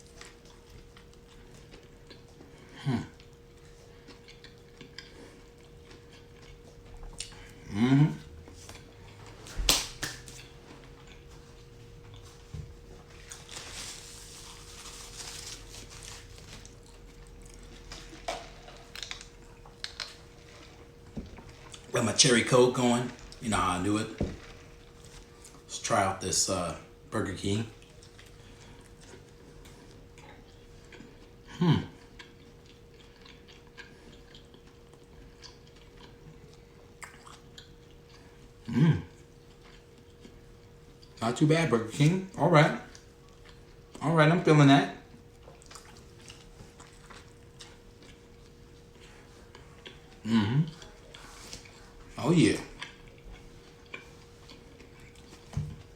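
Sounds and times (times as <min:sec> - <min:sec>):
chewing crispy food: 0:00.0 - 0:55.9.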